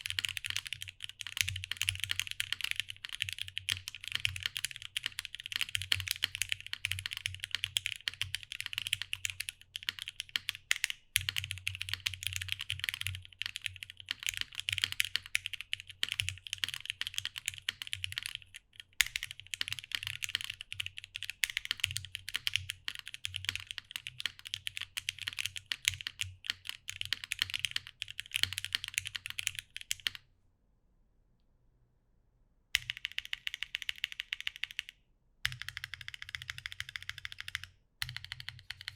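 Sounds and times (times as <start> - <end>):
fast mechanical keyboard typing: 0.0 - 30.2, 32.8 - 38.9.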